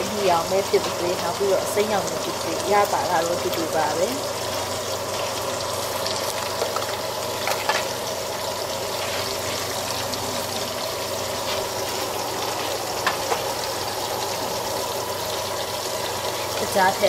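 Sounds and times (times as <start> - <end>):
meatballs sizzling in oil: 0.0 - 17.0
sharp pops of frying: 0.5 - 10.0, 11.3 - 16.7.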